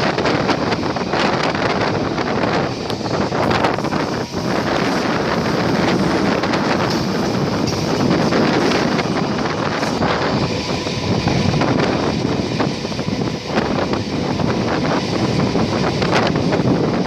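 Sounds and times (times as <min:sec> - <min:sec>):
train coaches running on track: 0:00.0 - 0:17.0
wind buffeting microphone: 0:00.0 - 0:17.0.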